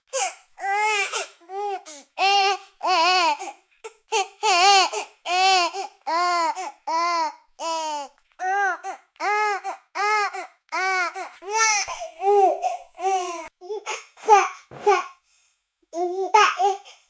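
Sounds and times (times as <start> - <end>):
baby sobbing: 0.1 - 15.2.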